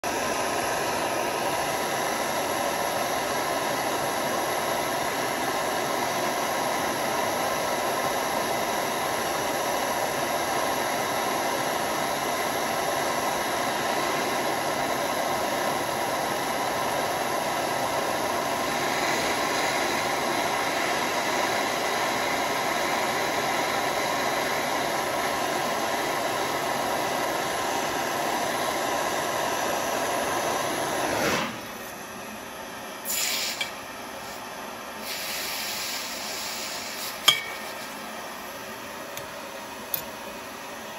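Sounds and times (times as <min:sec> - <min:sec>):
blowtorch flame hissing: 0:00.0 - 0:40.9.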